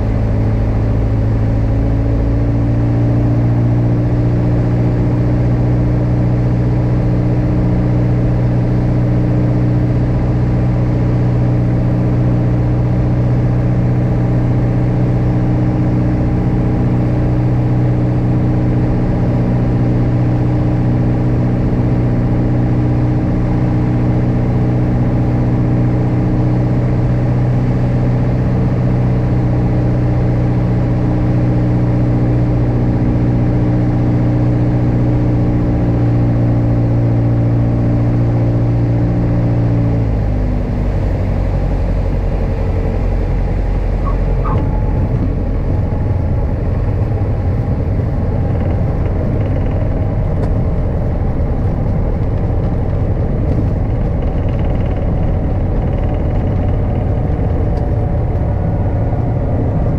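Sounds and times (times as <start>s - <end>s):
piston aircraft engine droning: 0.0s - 59.9s.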